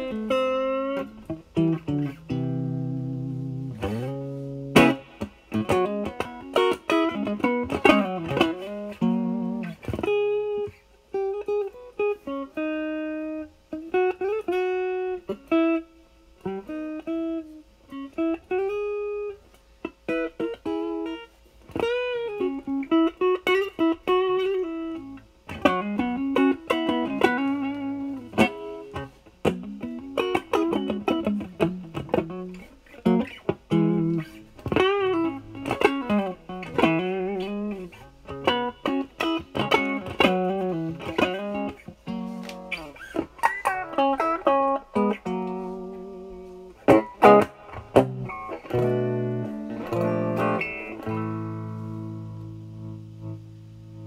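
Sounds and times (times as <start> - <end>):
distorted electric guitar lead: 0.0 - 54.0.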